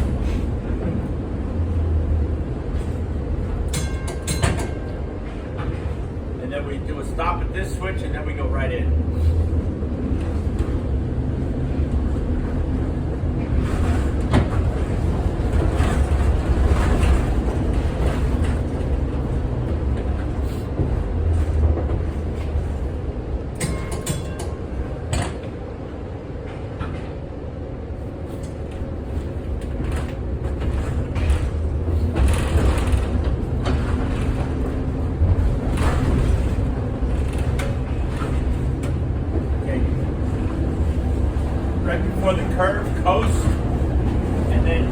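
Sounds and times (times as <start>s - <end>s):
streetcar rumbling along track: 0.0s - 44.9s.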